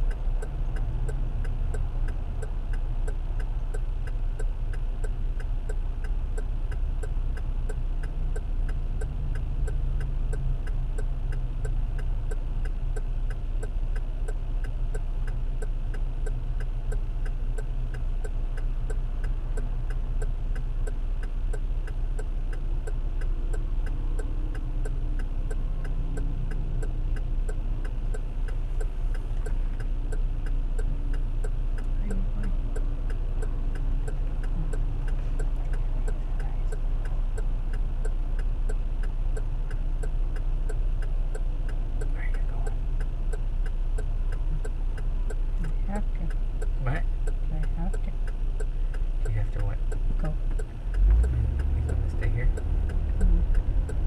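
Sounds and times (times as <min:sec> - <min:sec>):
car engine idling: 0:00.0 - 0:54.0
turn signal ticking: 0:00.0 - 0:54.0.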